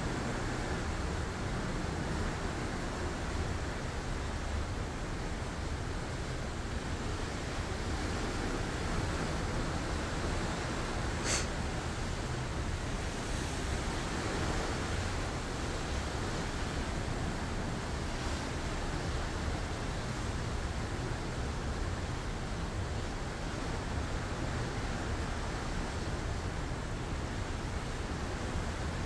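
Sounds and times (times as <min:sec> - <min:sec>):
sea water rushing along hull: 0:00.0 - 0:29.0.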